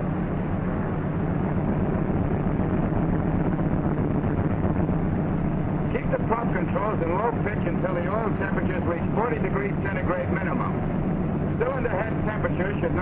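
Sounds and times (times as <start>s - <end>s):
radial aircraft engines droning: 0.0s - 13.0s.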